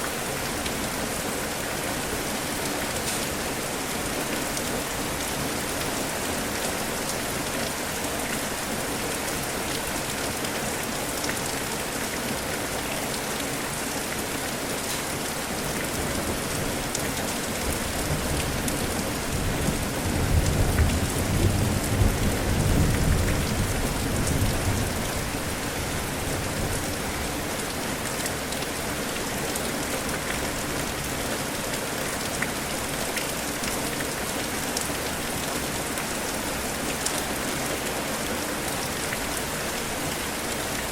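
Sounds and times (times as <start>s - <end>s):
rain pattering: 0.1s - 40.9s.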